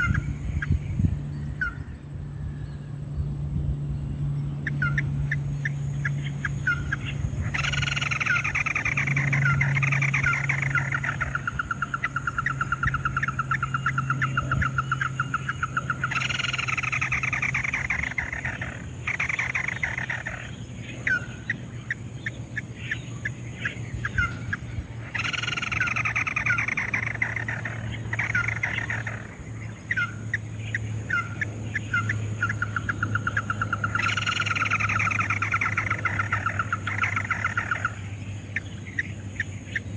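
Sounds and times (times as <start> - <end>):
bird calls trilling: 0.0 - 39.9
low hum: 0.0 - 39.9.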